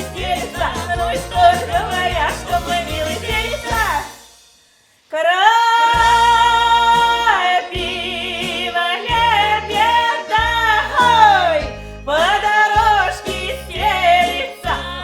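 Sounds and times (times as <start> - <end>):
backing track with pulsing bass: 0.0 - 4.1, 6.0 - 15.0
woman singing folk style: 0.0 - 4.2, 5.1 - 15.0.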